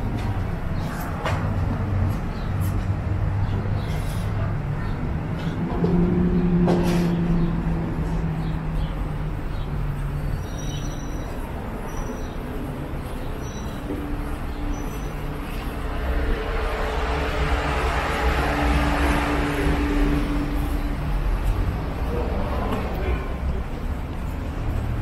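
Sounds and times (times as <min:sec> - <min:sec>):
road traffic rumble: 0:00.0 - 0:25.0
vehicle engine hum: 0:00.0 - 0:25.0.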